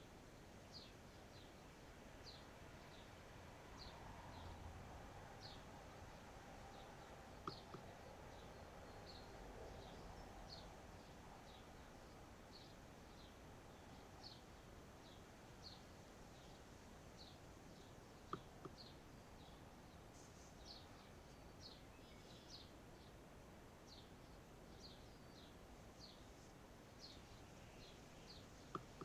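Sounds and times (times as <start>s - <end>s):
soft outdoor hiss: 0.0s - 29.0s.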